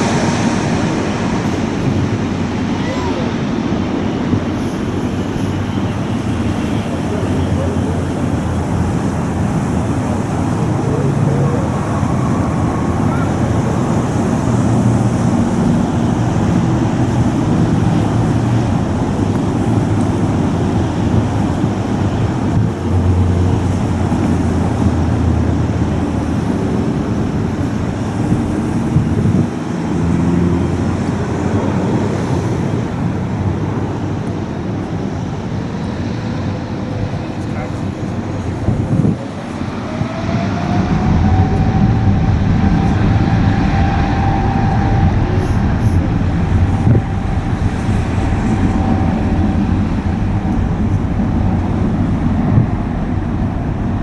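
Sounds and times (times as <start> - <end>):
jet engines rumbling: 0.0 - 54.0
road traffic: 0.0 - 54.0.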